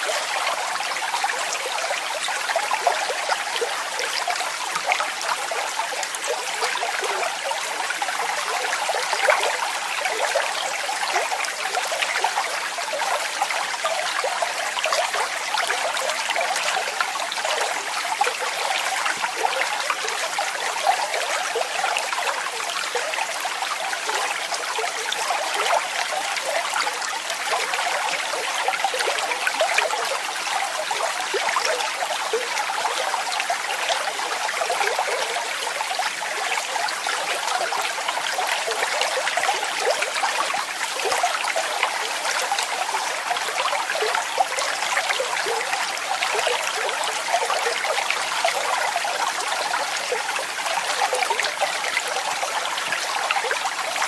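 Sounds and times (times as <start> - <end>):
small waterfall running: 0.0 - 54.0.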